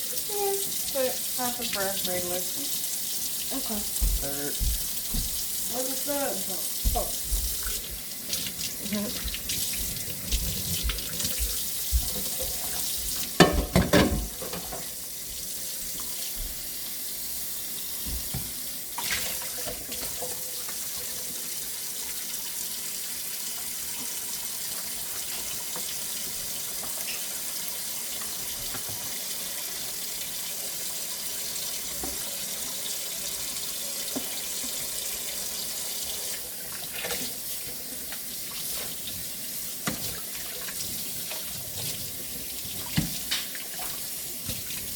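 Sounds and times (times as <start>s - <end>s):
tap water running into sink: 0.0s - 44.9s.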